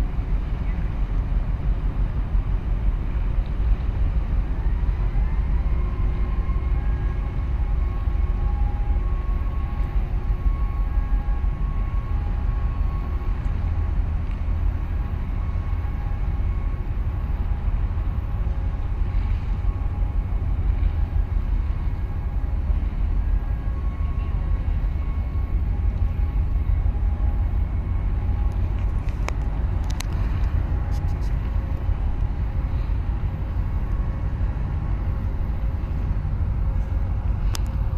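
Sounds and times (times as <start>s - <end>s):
machinery hum: 0.0s - 37.9s
ship rumble: 0.0s - 37.9s.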